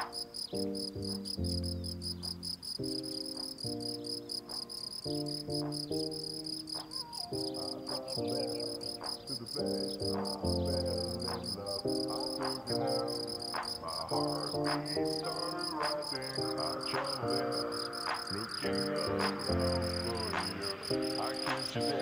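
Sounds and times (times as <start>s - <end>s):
crickets chirping: 0.0s - 22.0s
soft music of sustained chords: 0.0s - 22.0s.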